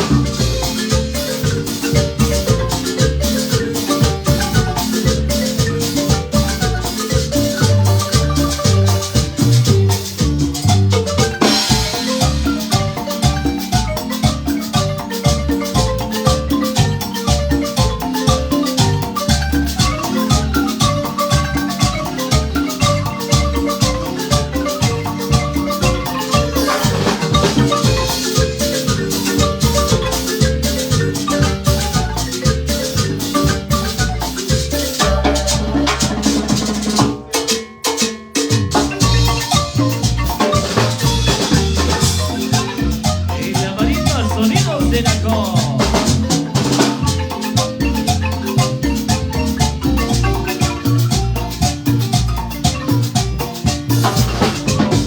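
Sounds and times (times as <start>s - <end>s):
bass beat: 0.0s - 37.3s, 38.7s - 55.0s
marimba band dance music: 0.0s - 55.0s.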